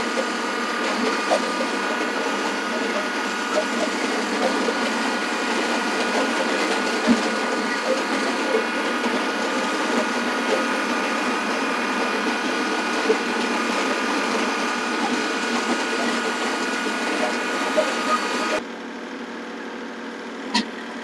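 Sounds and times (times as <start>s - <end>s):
tractor engine running: 0.0s - 18.6s.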